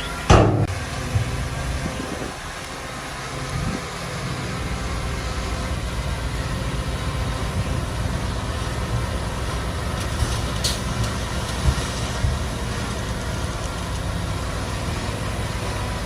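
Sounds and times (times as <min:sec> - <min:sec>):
diesel machinery engine rumble: 0:00.0 - 0:16.0.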